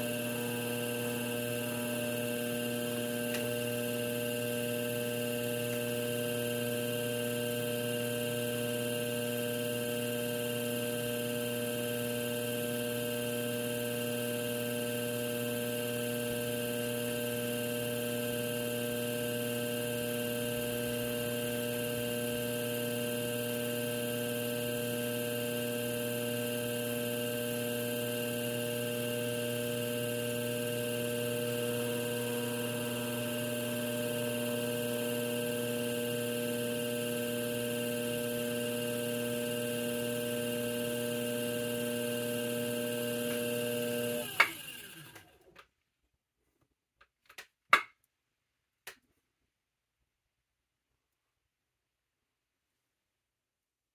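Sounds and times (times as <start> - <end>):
electric motor humming: 0.0 - 45.3.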